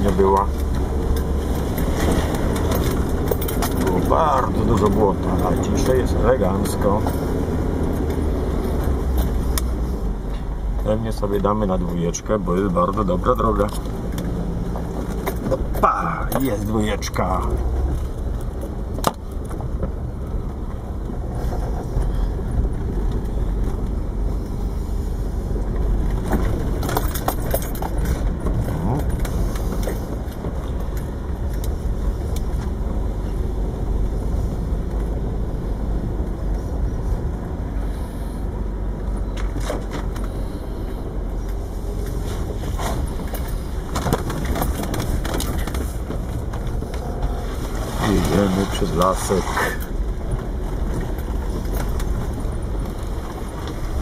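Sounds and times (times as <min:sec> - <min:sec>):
knocks and rattles over bumps: 0:00.0 - 0:24.6, 0:25.5 - 0:54.0
engine and drivetrain rumble: 0:00.0 - 0:54.0.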